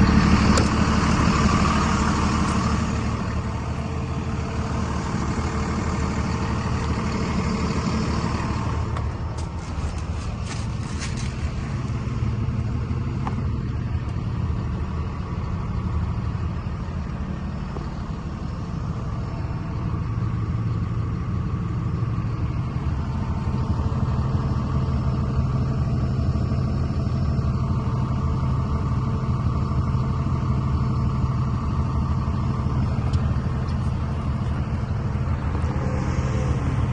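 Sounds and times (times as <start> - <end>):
truck diesel engine humming: 0.0 - 36.9.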